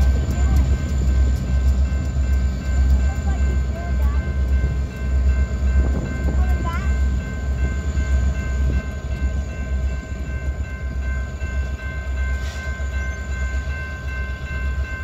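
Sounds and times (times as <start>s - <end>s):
diesel locomotive rumble: 0.0s - 15.0s
high ringing tones: 0.0s - 15.0s.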